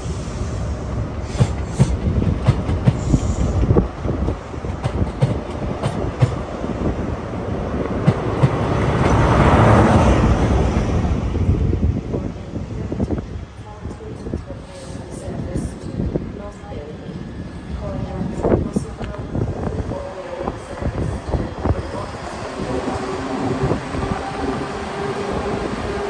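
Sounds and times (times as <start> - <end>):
diesel locomotive passing: 0.0 - 26.0
train coach wheels rumbling: 0.0 - 26.0.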